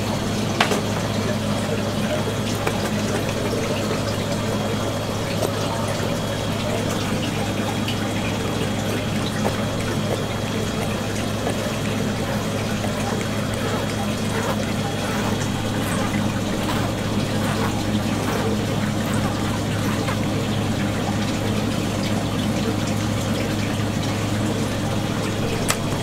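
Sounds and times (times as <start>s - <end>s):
pump humming: 0.0s - 26.0s
water trickling in a tank: 0.0s - 26.0s.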